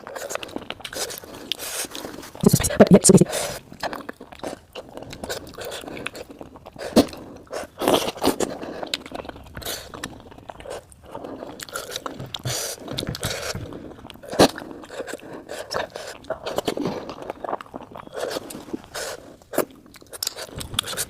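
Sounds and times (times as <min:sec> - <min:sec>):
chewing and biting: 0:00.0 - 0:21.0.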